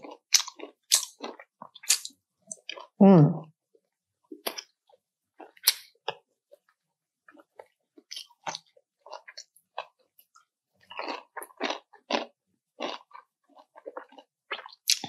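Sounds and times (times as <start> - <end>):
crunching and chewing crispy food: 0.0 - 3.0, 4.4 - 15.0.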